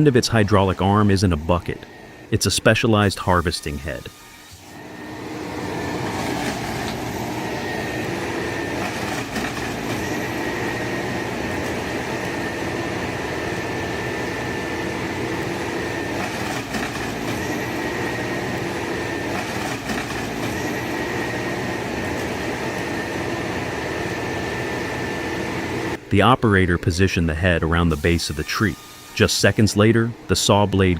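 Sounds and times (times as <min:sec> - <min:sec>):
machine engine and hydraulics drone: 0:00.0 - 0:30.9
thin high whine: 0:00.0 - 0:30.9.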